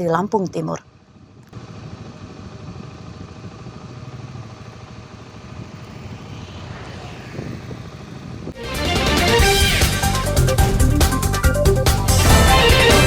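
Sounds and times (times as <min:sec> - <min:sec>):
steady mechanical drone: 0:00.8 - 0:13.0.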